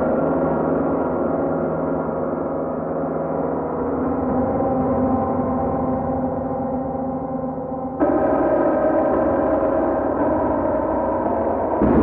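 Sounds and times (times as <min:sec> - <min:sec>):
dense drone of held tones: 0:00.0 - 0:12.0.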